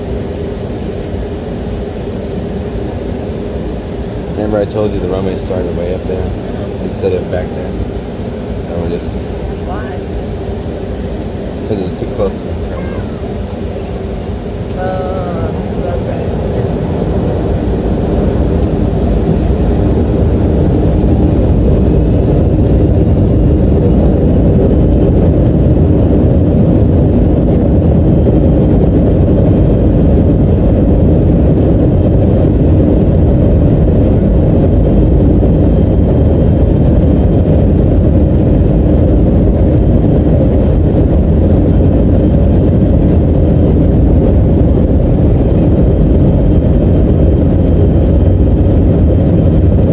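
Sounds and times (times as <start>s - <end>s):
jet engines rumbling in cabin: 0.0s - 49.9s.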